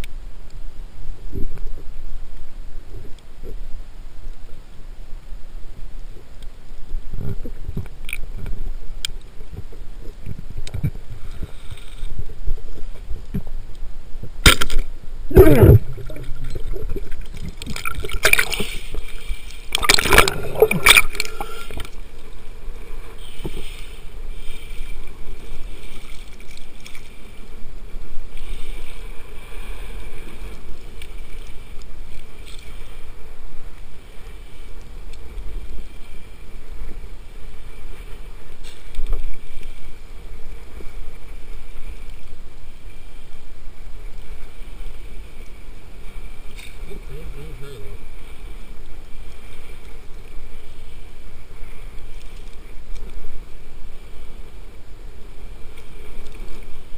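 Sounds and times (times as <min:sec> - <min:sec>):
water splashing and gurgling: 0:05.8 - 0:56.9.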